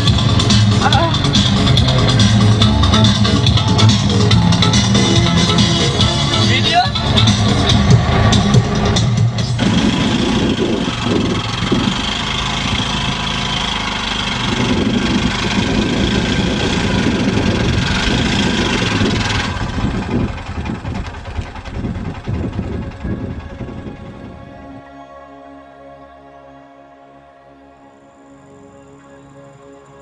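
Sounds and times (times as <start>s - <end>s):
small engine running under load: 0.0s - 25.1s.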